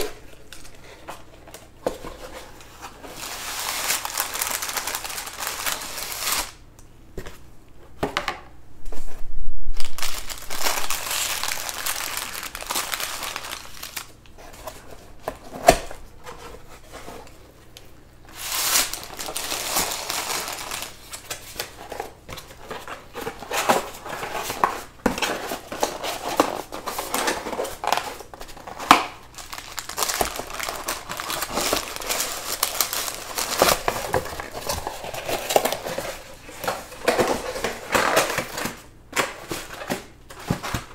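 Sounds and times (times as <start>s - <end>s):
packaging crinkling: 0.0s - 6.6s, 9.8s - 40.9s.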